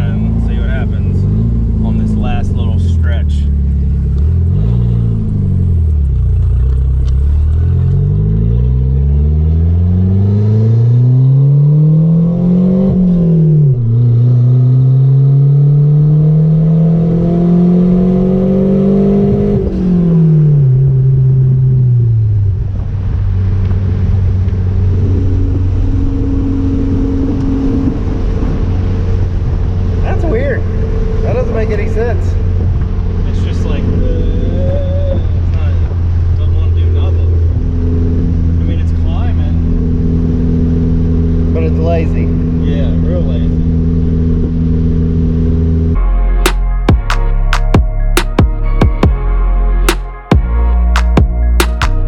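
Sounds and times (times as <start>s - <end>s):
car engine revving under load: 0.0s - 52.0s.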